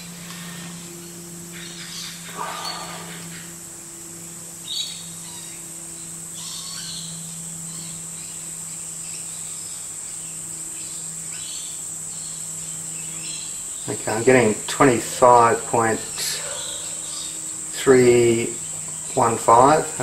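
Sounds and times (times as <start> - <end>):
high-pitched whine: 0.0 - 20.0
low hum: 0.0 - 20.0.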